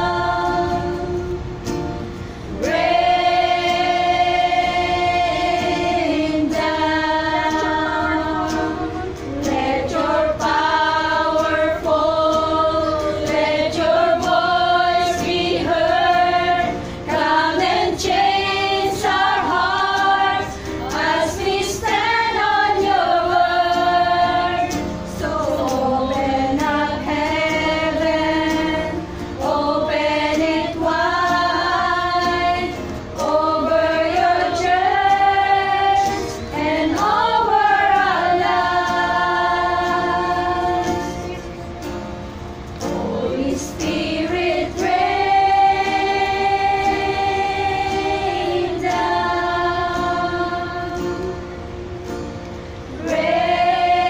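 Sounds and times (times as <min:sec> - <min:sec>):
women singing together: 0:00.0 - 0:41.8, 0:42.7 - 0:54.0
acoustic guitar: 0:00.0 - 0:54.0.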